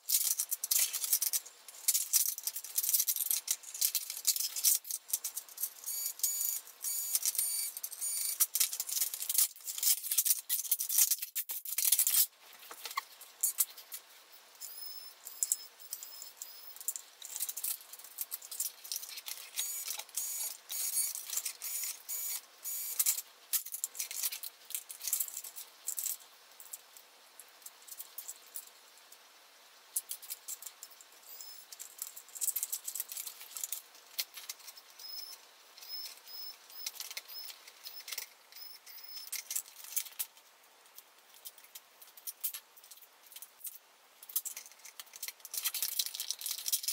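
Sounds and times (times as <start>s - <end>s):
clicks and rattles of small parts: 0.0s - 29.3s, 29.9s - 46.9s.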